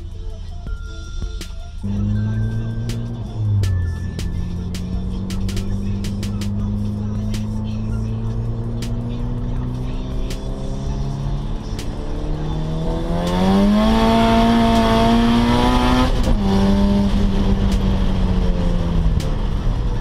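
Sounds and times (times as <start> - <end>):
car engine at full throttle: 1.8 - 20.0.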